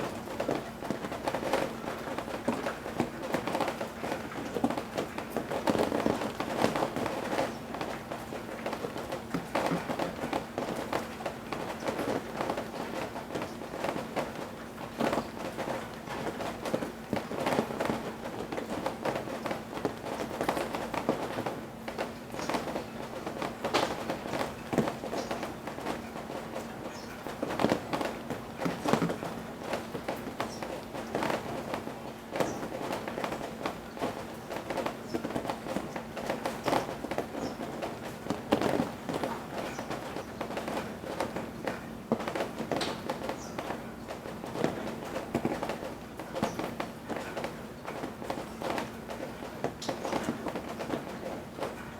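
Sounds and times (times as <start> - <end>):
rain dripping from eaves: 0.0 - 51.9.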